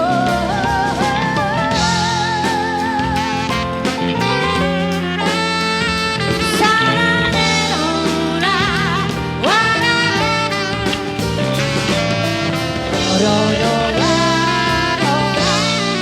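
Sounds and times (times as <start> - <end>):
band with drums: 0.0 - 16.0
lead melody with vibrato: 0.0 - 16.0.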